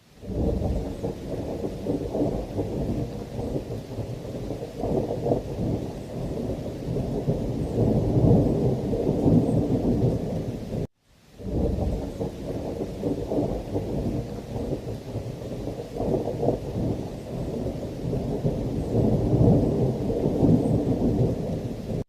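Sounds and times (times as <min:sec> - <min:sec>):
heavy rain: 0:00.0 - 0:22.0
rolling thunder: 0:00.2 - 0:22.0.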